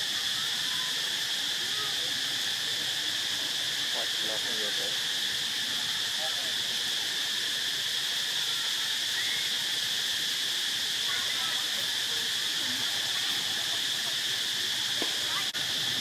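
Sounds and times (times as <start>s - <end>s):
insects chorus: 0.0s - 16.0s.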